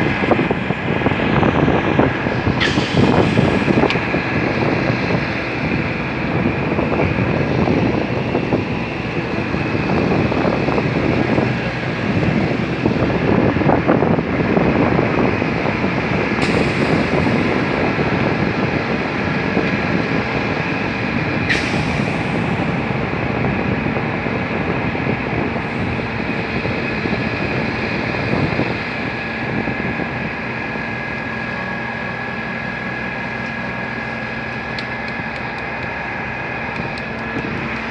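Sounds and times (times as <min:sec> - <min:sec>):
diesel machinery running: 0:00.0 - 0:37.9
high whine: 0:00.0 - 0:37.9.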